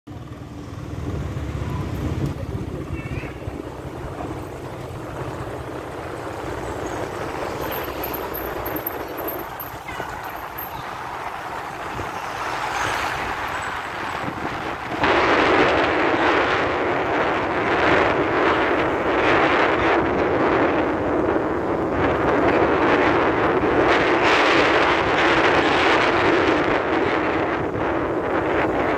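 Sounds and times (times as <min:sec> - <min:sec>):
scooter engine and road rumble: 0:00.1 - 0:28.9
wind rushing on microphone: 0:00.7 - 0:28.9.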